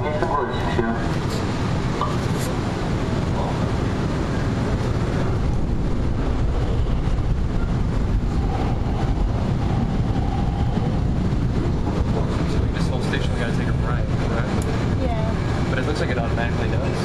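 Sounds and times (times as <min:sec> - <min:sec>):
train carriage rumble: 0:00.0 - 0:17.0.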